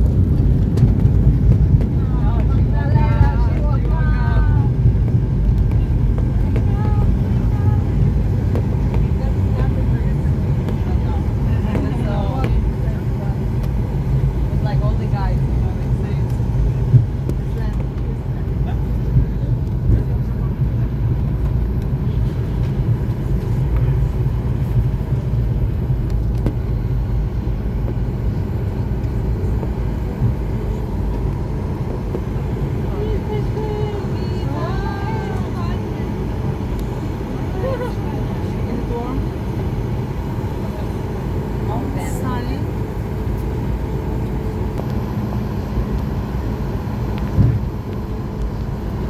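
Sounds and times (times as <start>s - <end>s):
aircraft cabin rumble: 0.0s - 49.0s.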